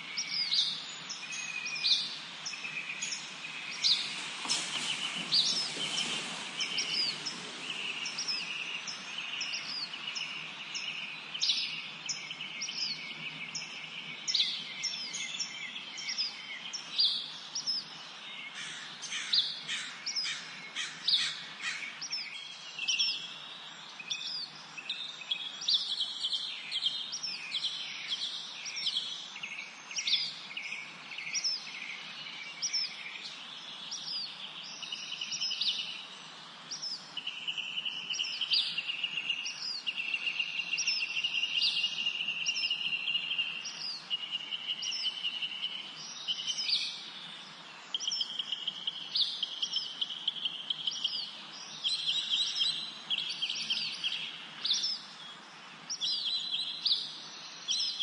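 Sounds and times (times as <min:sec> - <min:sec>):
faint steady hiss: 0:00.0 - 0:58.0
songbirds chirping and whistling: 0:00.0 - 0:58.0.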